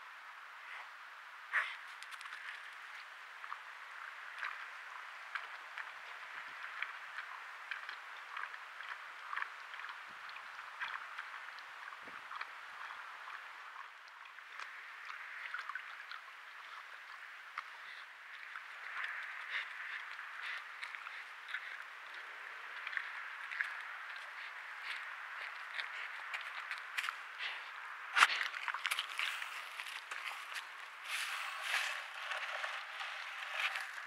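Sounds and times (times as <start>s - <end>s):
animal chewing and crunching food: 1.5s - 34.0s.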